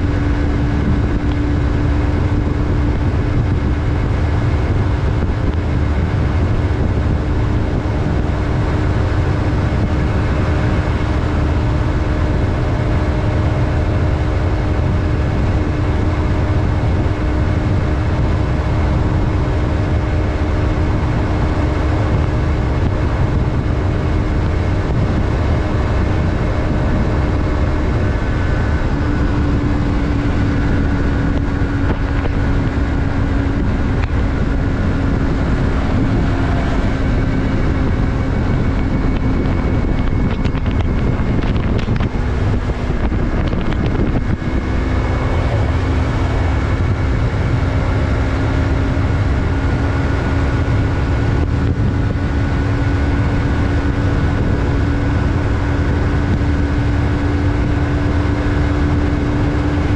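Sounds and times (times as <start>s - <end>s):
motorcycle engine cruising: 0.0s - 59.9s
wind rumble on microphone: 0.0s - 59.9s.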